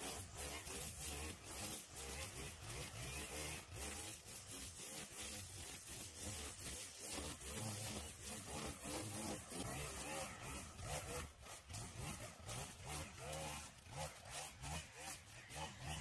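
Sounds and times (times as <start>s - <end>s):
string trimmer cutting grass: 0.0s - 16.0s.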